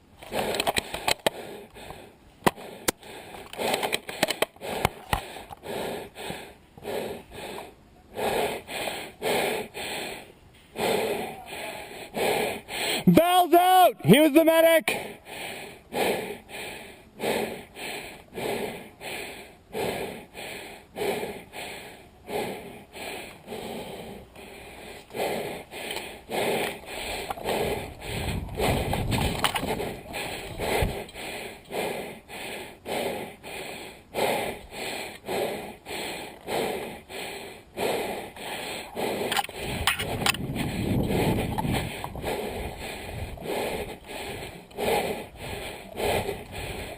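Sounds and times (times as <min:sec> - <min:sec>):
person panting: 0:00.2 - 0:13.3, 0:14.8 - 0:46.9.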